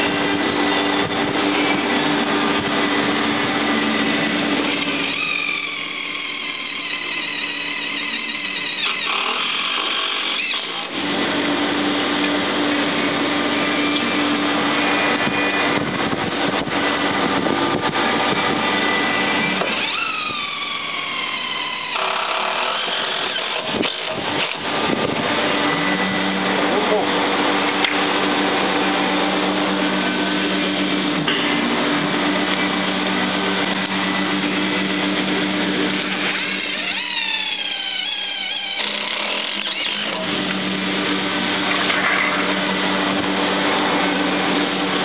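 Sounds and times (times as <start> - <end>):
cordless drill whine: 0.0 - 16.2, 17.7 - 27.0, 32.6 - 44.9
steady background hum: 0.0 - 45.0.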